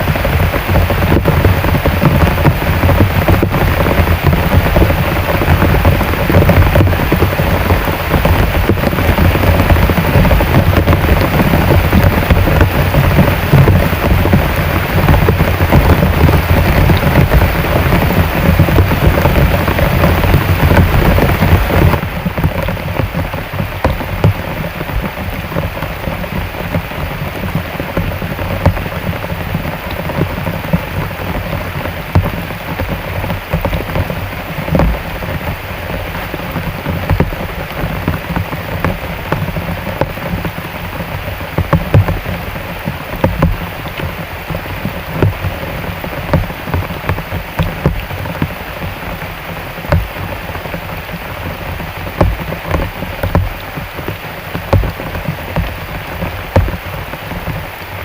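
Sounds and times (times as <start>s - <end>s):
heavy rain pouring: 0.0s - 58.0s
raindrops pattering on surfaces: 0.0s - 58.0s.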